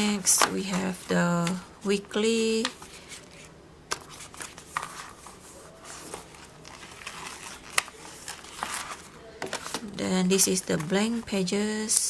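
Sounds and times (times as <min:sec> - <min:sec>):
paper rustling: 0:00.1 - 0:12.0.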